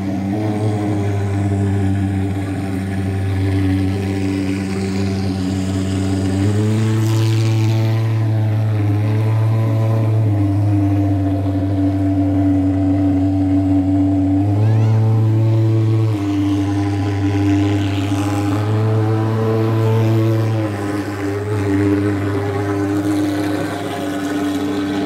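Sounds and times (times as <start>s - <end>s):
fogging machine engine buzzing: 0.0s - 25.0s.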